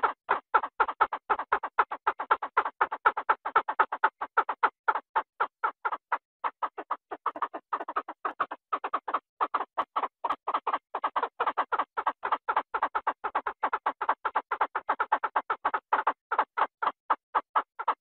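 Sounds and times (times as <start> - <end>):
rapid quacking calls: 0.0 - 0.9, 1.6 - 18.0.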